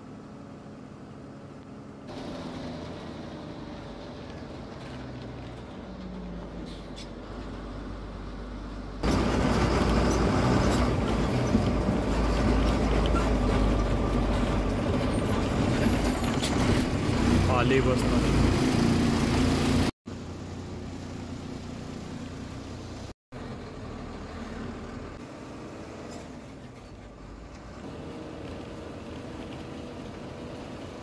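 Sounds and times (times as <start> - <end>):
bus engine hum: 0.0 - 31.0
heavy low engine rumble: 0.0 - 31.0.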